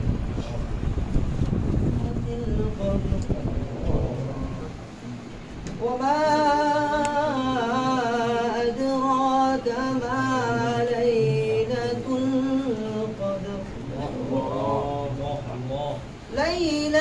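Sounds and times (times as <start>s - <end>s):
low murmur: 0.0s - 17.0s
unaccompanied voice chanting: 1.9s - 17.0s.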